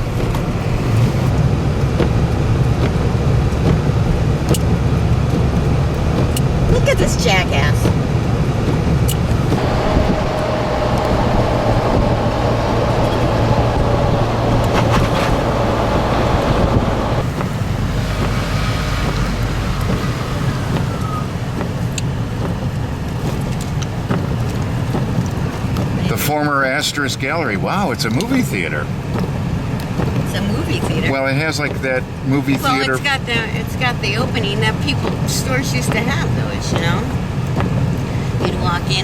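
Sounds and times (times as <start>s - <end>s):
car engine and road rumble: 0.0s - 39.0s
tyre noise: 0.0s - 39.0s.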